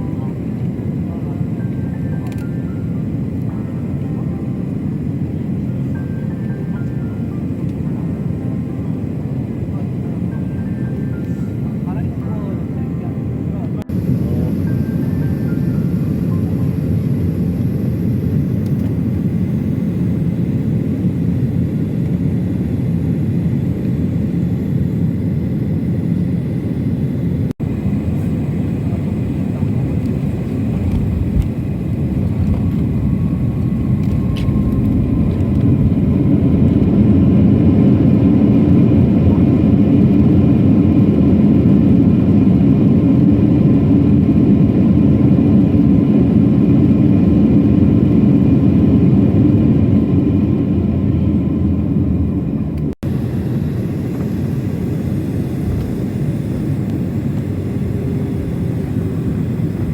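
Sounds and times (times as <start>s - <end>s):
airliner cabin engine rumble: 0.0s - 59.9s
faint gliding whine: 0.0s - 59.9s.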